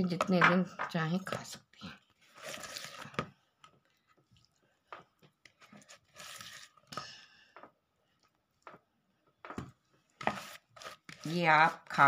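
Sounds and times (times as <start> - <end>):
faint squishing: 0.0 - 12.0.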